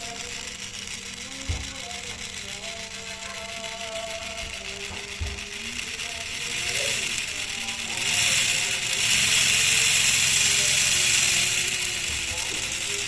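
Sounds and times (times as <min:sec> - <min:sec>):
model engine rattling and clicking: 0:00.0 - 0:13.0.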